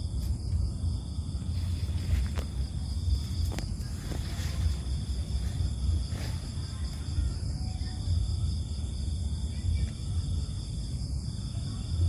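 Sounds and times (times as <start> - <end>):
continuous low rumble: 0.0 - 12.0
crickets trilling: 0.0 - 12.0.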